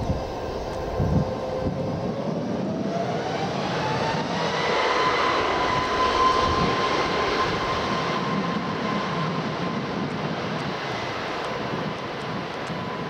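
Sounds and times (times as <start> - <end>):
jet engine high whine: 0.0 - 13.0
jet engine rush: 0.0 - 13.0.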